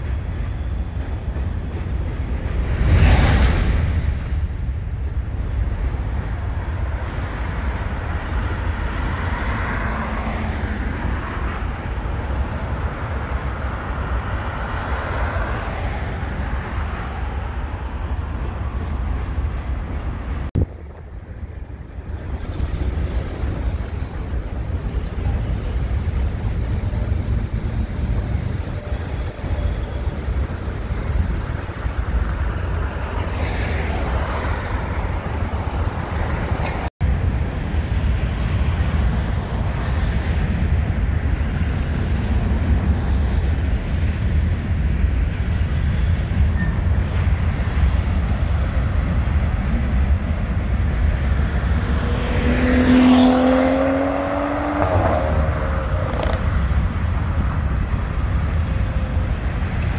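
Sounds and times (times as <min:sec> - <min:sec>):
freight train wheels rumbling on rail: 0:00.0 - 0:59.9
street traffic: 0:00.0 - 0:59.9.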